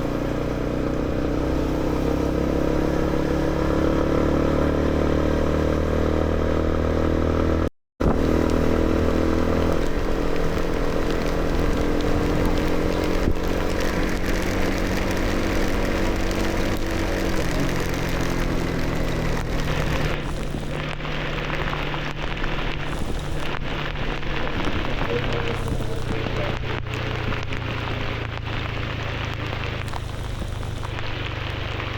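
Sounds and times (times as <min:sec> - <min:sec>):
motorcycle engine running: 0:00.0 - 0:31.9
road and wind noise: 0:00.0 - 0:31.9.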